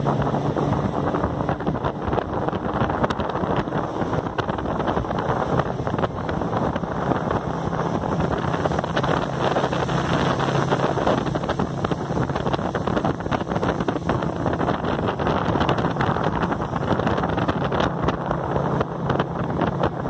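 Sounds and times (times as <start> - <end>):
speedboat engine running: 0.0 - 20.0
water rushing past hull: 0.0 - 20.0
wind buffeting microphone: 0.0 - 20.0.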